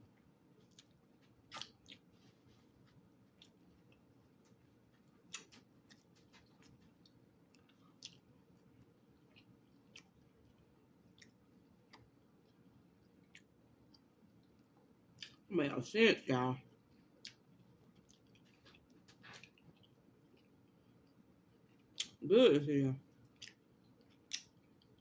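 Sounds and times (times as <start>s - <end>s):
faint chewing with mouth clicks: 0.0s - 15.5s, 16.7s - 22.2s, 23.0s - 25.0s.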